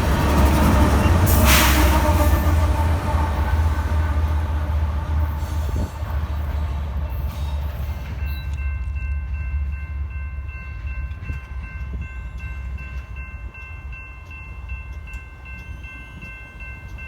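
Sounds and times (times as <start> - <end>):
freight train rumbling by: 0.0 - 17.0.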